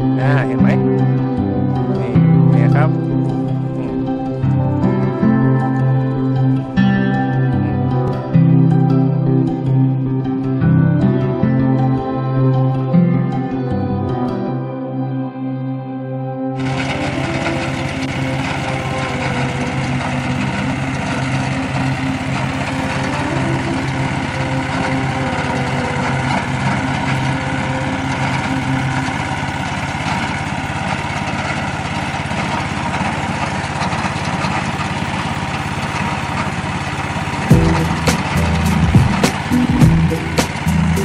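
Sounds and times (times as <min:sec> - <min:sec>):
lawn mower engine running: 0:00.0 - 0:11.2, 0:16.6 - 0:41.0.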